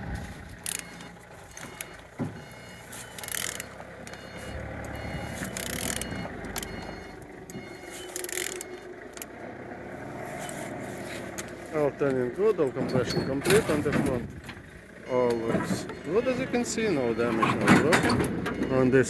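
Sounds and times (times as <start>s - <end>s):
engine turned over by hand: 0.0s - 19.0s.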